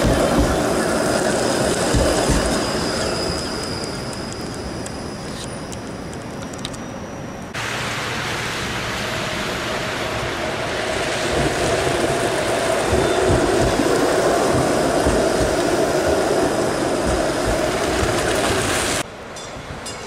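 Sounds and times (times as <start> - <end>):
rushing street noise: 0.0 - 20.0
streetcar passing: 0.0 - 20.0.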